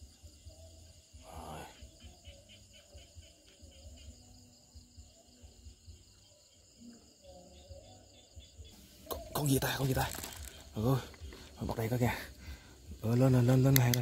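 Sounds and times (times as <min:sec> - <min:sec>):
insect chirping pulse: 0:00.0 - 0:14.0
insects trilling: 0:00.0 - 0:14.0.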